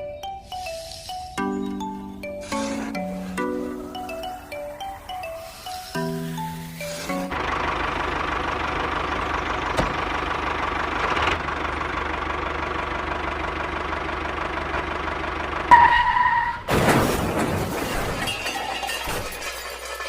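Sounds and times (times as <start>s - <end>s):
tractor engine rumbling: 0.0s - 20.0s.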